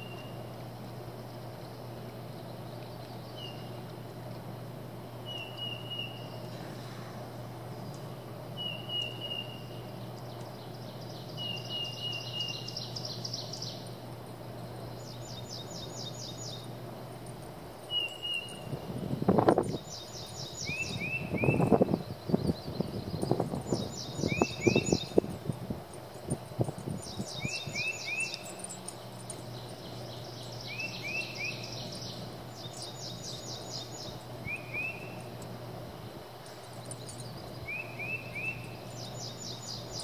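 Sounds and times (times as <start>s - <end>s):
birds whistling and trilling: 0.0s - 0.5s, 1.6s - 3.9s, 5.2s - 40.0s
faint low hum: 0.0s - 40.0s.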